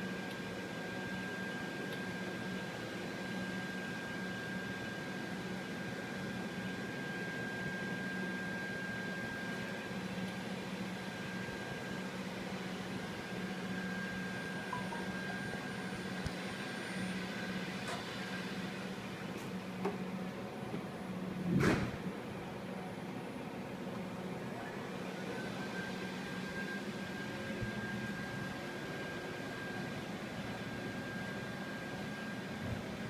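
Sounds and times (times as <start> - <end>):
machine hum with whine: 0.0 - 33.0.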